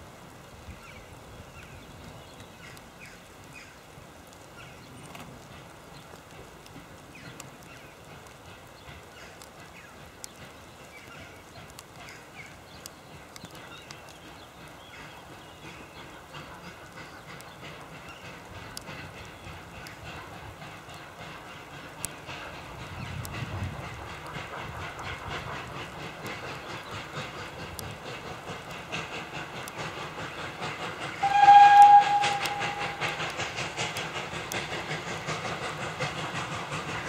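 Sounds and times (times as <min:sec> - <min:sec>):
distant steam locomotive chuffing: 0:00.0 - 0:37.0.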